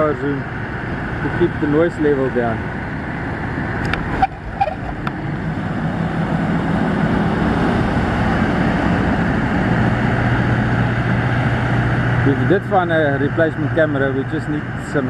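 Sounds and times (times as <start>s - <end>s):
engine running: 0.0s - 15.0s
wind: 0.0s - 15.0s.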